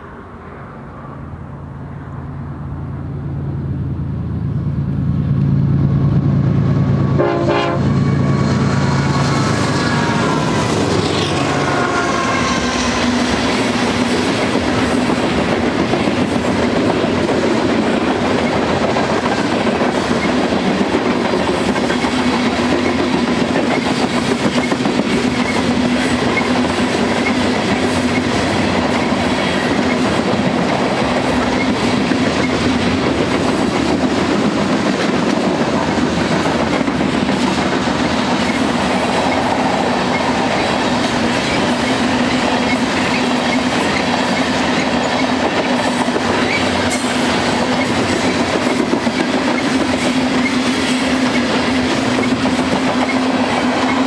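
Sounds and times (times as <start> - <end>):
steel wheels rumbling on rail: 0.0 - 54.0
train clickety-clack: 5.3 - 54.0.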